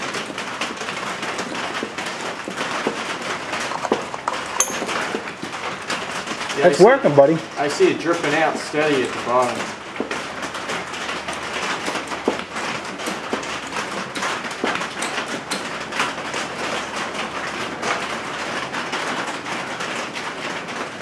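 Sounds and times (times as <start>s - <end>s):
rain on a roof: 0.0s - 4.2s, 4.9s - 21.0s.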